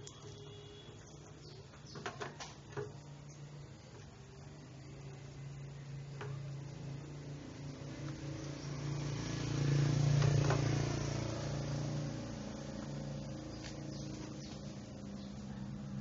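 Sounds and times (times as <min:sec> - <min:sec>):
small engine humming: 0:02.8 - 0:16.0.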